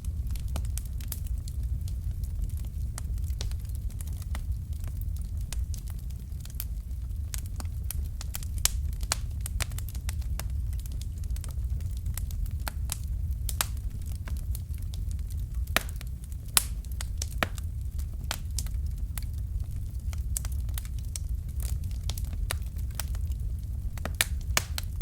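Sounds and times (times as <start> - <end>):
fire crackling and popping: 0.0 - 25.0
low steady rumble: 0.0 - 25.0.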